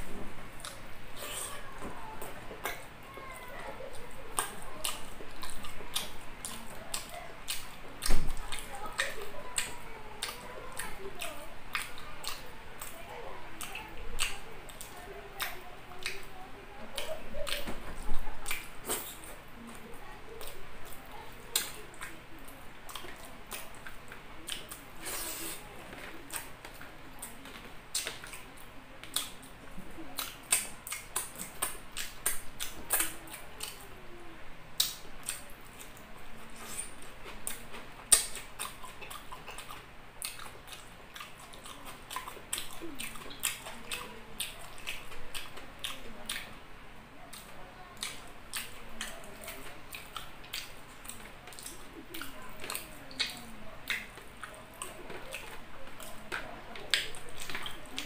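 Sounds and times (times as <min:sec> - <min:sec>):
man chewing wetly: 0:00.0 - 0:34.0, 0:34.6 - 0:58.0.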